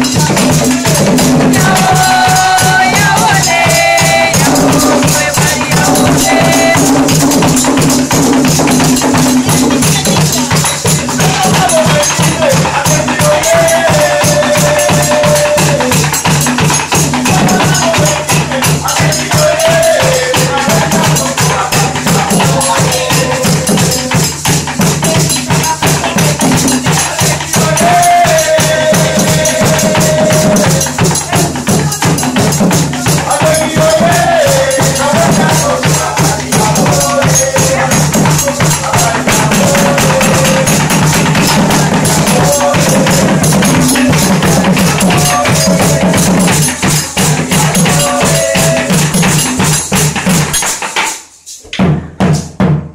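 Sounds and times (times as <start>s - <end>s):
people singing: 0.0s - 50.8s
hand drums playing: 0.0s - 52.9s.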